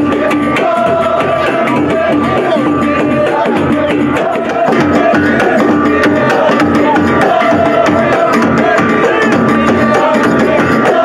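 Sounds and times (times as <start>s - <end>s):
frame drums beating fast: 0.0s - 11.0s.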